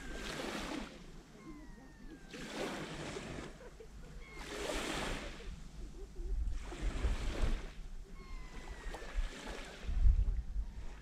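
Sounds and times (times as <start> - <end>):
waves lapping on sand: 0.0 - 11.0.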